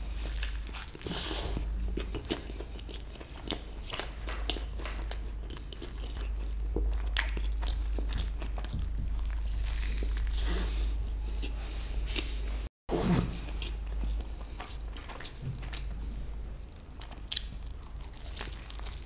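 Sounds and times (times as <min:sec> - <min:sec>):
chewing with crunches: 0:00.0 - 0:12.4, 0:13.4 - 0:19.0.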